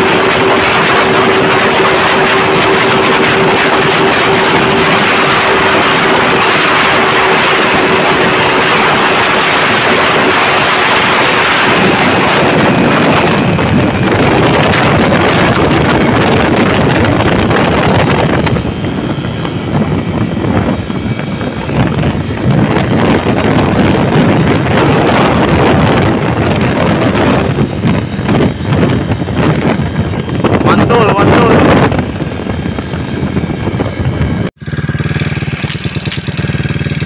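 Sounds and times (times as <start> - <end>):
motorcycle engine at speed: 0.0 - 37.0
wind rushing on microphone: 0.0 - 37.0.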